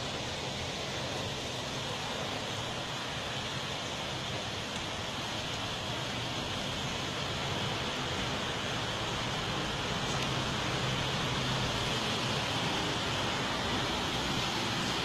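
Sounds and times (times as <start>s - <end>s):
rainwater rushing in street: 0.0s - 15.0s.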